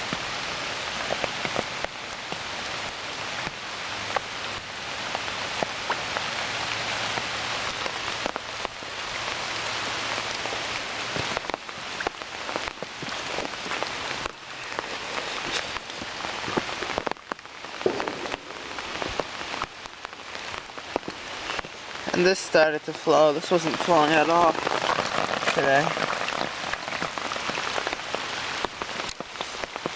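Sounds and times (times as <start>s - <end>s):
heavy rain: 0.0s - 29.9s
raindrops ticking close by: 0.0s - 29.9s
stream water running: 0.0s - 29.9s.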